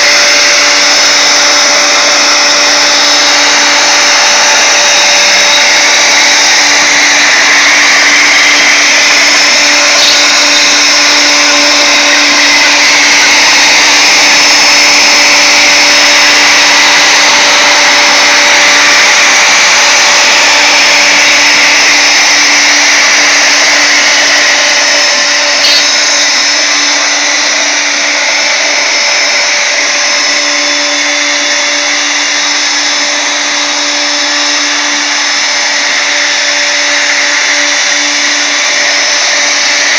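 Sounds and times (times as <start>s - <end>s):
router motor whine: 0.0s - 39.9s.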